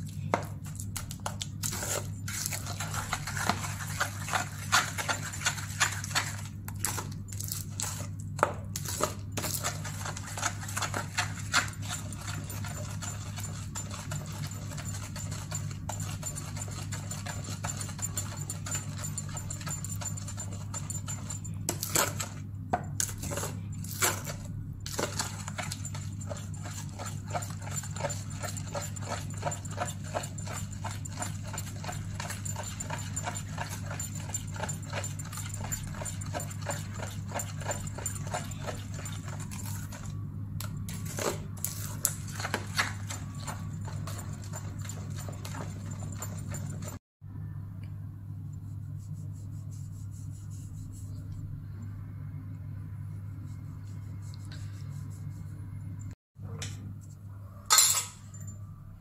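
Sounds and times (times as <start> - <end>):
spoon scraping batter in bowl: 0.0 - 47.0, 48.5 - 51.8, 53.0 - 56.0
steady low hum: 0.0 - 59.0.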